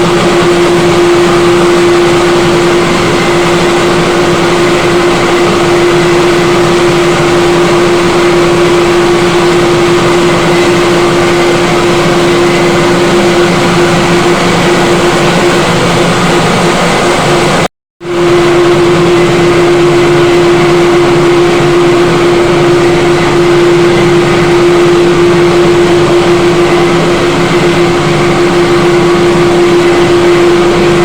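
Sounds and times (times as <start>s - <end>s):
machine motor hum and whirring: 0.0s - 31.0s.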